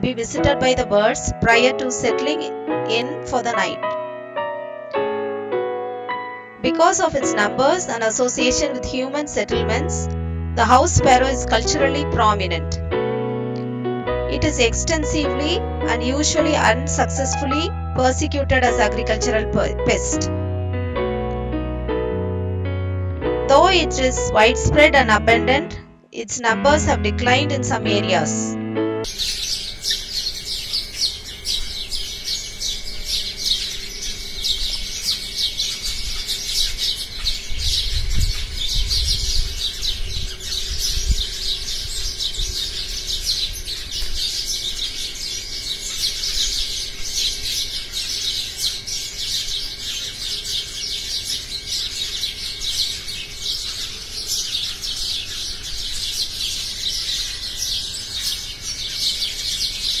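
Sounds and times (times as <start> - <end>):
sparrows chirping: 0.0 - 4.0, 6.6 - 12.8, 14.3 - 20.4, 23.5 - 25.8, 26.4 - 60.0.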